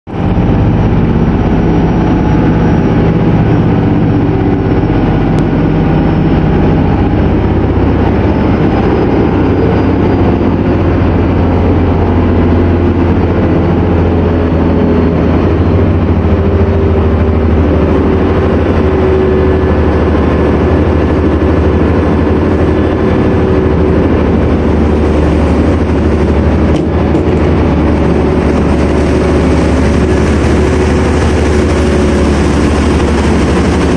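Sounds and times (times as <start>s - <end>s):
boat engines droning: 0.1s - 33.9s
rush of churning wake: 0.1s - 33.9s.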